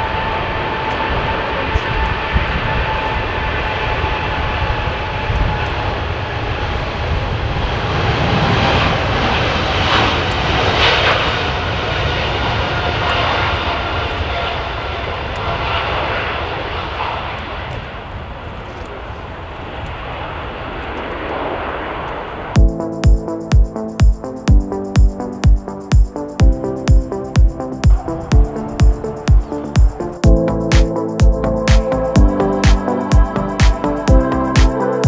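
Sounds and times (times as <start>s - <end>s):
loud jet engine noise: 0.0s - 35.0s.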